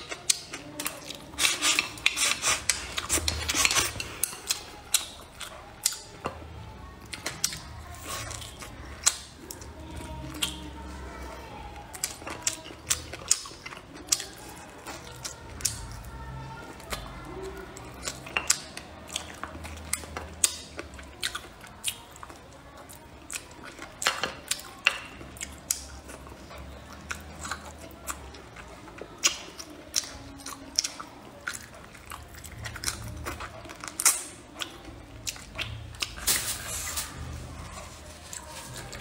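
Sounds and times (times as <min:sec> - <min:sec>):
person chewing meat off bone: 0:00.0 - 0:10.9, 0:11.9 - 0:39.0.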